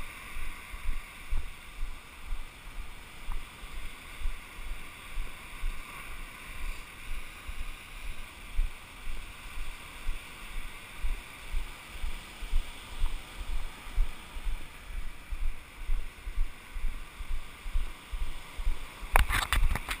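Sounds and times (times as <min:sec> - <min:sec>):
footsteps in sand: 0:00.0 - 0:20.0
surf and wind hiss: 0:00.0 - 0:20.0.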